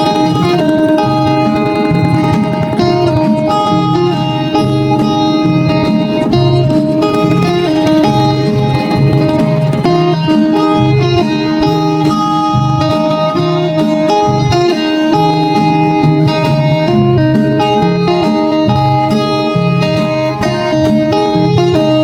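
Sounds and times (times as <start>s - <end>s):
plucked guitar music: 0.0s - 22.0s.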